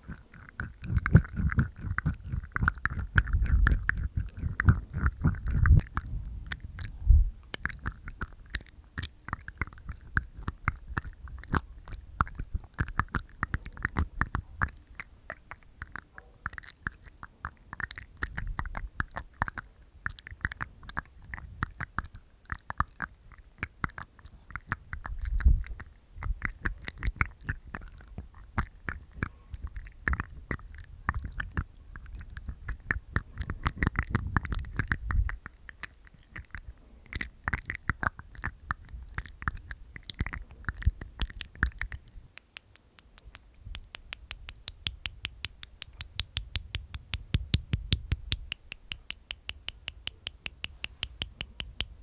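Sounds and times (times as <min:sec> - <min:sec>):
teeth taps: 0:00.0 - 0:52.0
wet tongue clicks: 0:00.0 - 0:52.0.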